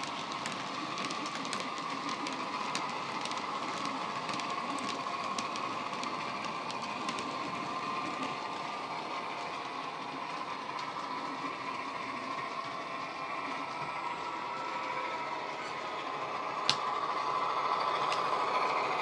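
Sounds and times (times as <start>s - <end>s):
model wagons clicking over track: 0.0s - 19.0s.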